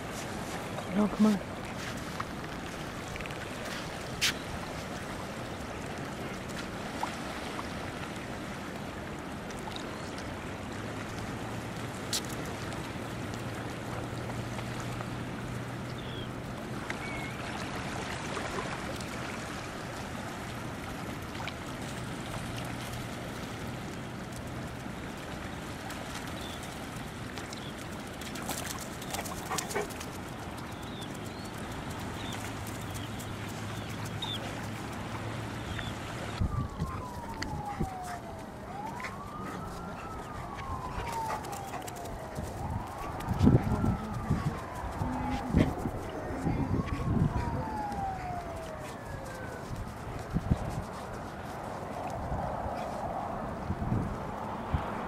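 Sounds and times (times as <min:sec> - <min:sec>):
light water on shore: 0:00.0 - 0:55.0
wind: 0:00.0 - 0:55.0.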